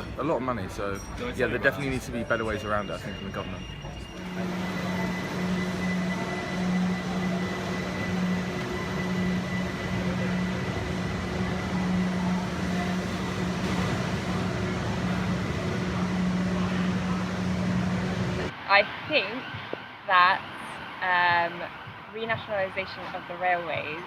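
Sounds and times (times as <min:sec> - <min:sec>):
faint high whine: 0:00.0 - 0:22.2
train running noise: 0:00.0 - 0:24.0.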